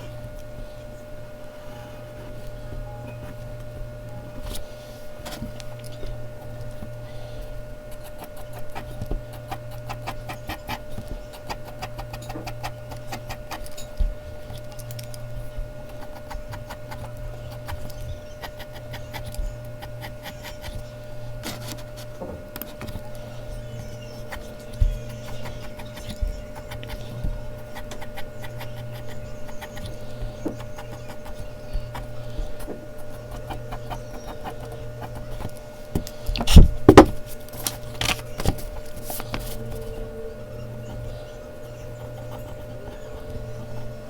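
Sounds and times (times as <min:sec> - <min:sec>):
low electrical hum: 0:00.0 - 0:44.0
pencil scratching on paper: 0:04.4 - 0:44.0.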